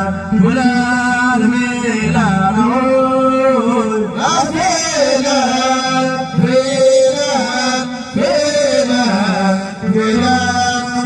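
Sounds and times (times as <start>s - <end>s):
man singing wavering notes: 0.0s - 11.0s.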